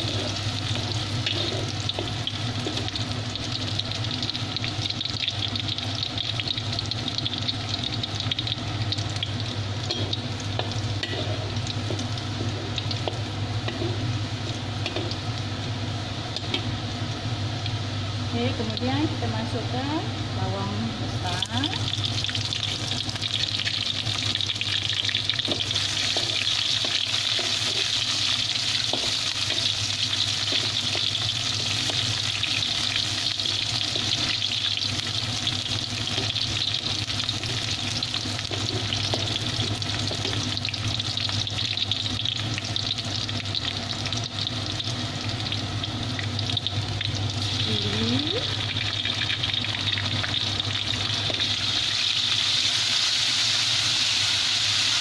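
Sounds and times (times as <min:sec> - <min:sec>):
onion and garlic sizzling in oil: 0:00.0 - 0:55.0.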